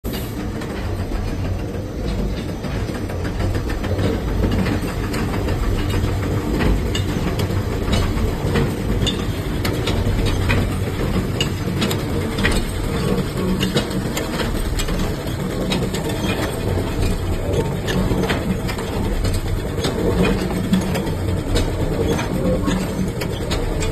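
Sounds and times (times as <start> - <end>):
metallic clicks and clanks: 0.1 - 23.9.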